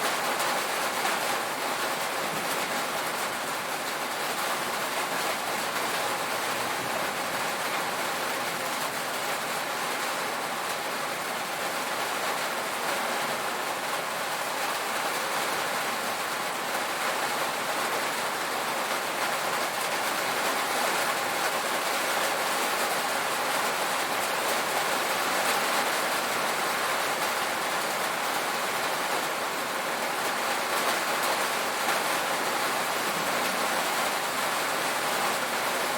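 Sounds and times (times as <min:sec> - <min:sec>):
rain on a tin roof: 0:00.0 - 0:35.9.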